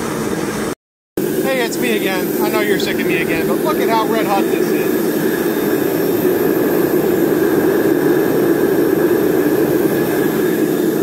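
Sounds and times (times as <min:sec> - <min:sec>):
air blower roaring: 0:00.0 - 0:11.0.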